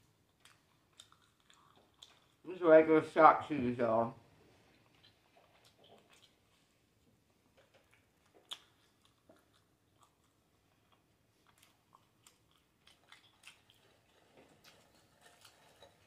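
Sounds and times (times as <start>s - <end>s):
chewing and lip-smacking: 0.0s - 2.5s, 4.6s - 16.0s.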